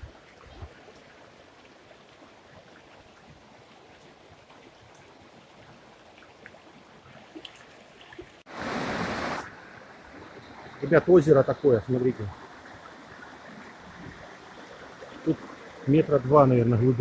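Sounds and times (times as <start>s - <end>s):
river flowing over rocks: 0.0s - 17.0s.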